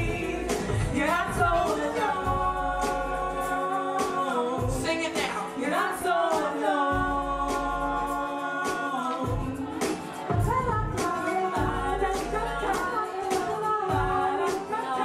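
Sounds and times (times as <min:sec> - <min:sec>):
vocal trio singing harmony: 0:00.0 - 0:15.0.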